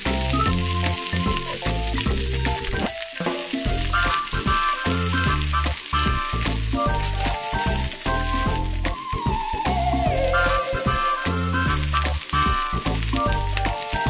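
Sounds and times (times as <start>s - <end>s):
background music: 0.0s - 14.0s
chicken and onion sizzling in pan: 0.0s - 14.0s.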